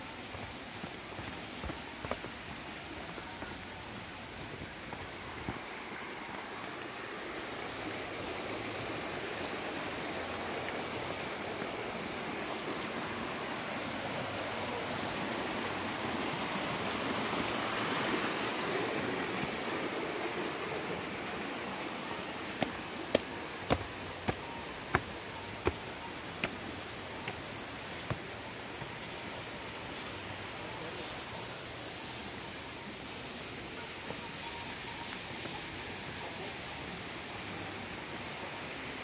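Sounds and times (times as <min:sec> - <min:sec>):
water rushing over rocks: 0:00.0 - 0:31.5.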